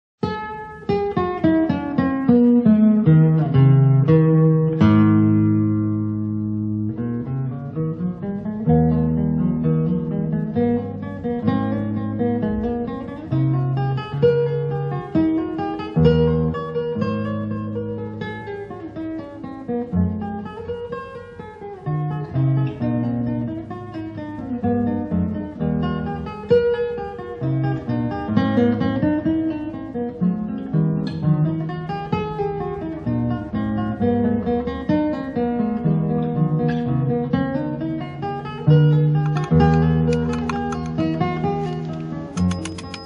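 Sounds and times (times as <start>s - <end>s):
acoustic guitar plucked notes: 0.2s - 43.0s.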